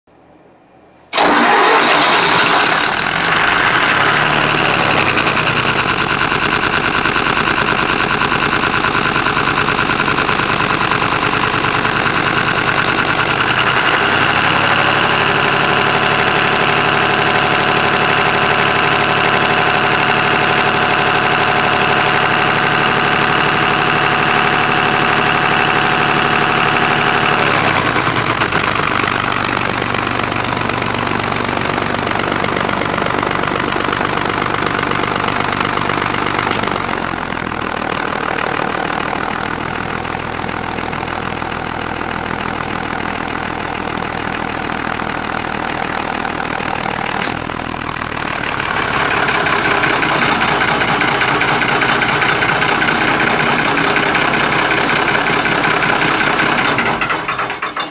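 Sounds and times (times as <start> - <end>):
diesel engine starting and running: 1.1 - 57.9.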